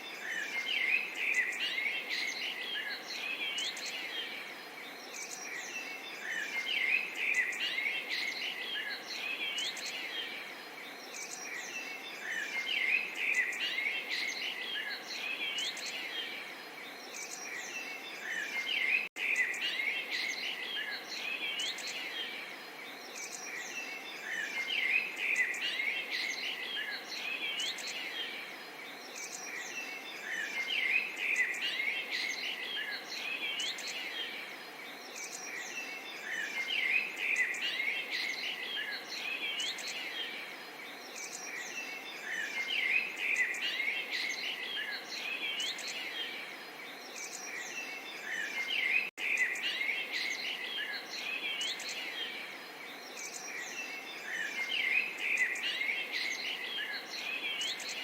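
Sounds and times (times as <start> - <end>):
faint babble of water: 0.0 - 58.0
songbirds chirping and twittering: 0.0 - 58.0.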